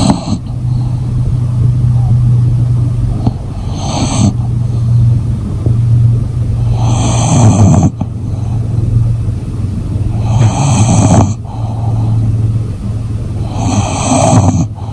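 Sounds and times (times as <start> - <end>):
dog snoring: 0.0 - 9.0, 10.1 - 12.4, 13.4 - 14.9
steady low drone: 0.0 - 14.9.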